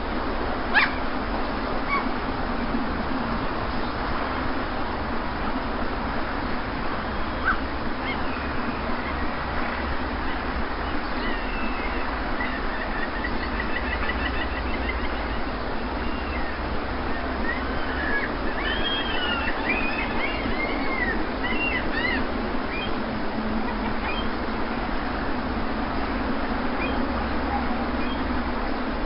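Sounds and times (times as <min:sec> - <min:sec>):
sea surf: 0:00.0 - 0:29.0
birds calling: 0:00.7 - 0:01.2, 0:01.8 - 0:04.5, 0:05.5 - 0:28.8.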